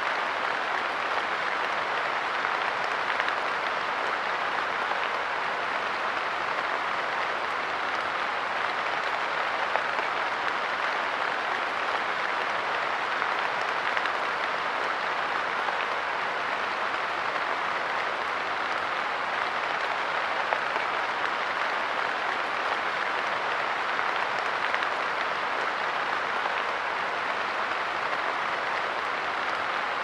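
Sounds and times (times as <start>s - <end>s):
light rain falling: 0.0s - 30.0s.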